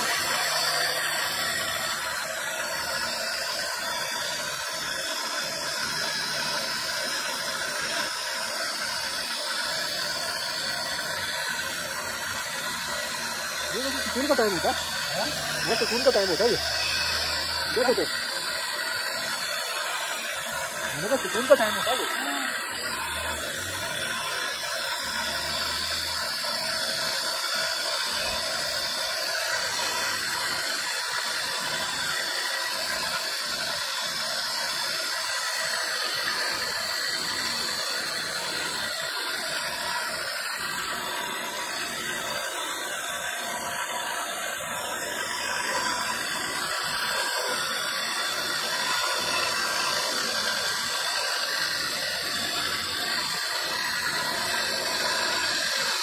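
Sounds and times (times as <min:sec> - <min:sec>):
rotary tool grinding stone: 0:00.0 - 0:56.0.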